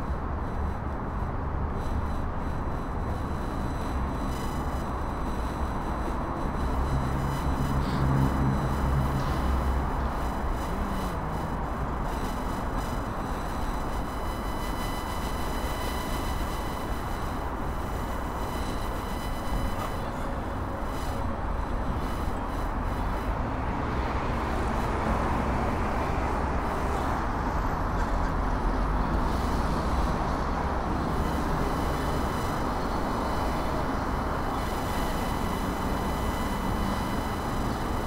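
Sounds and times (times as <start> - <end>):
city traffic rumble: 0.0 - 38.0
thin electronic whine: 0.0 - 38.0.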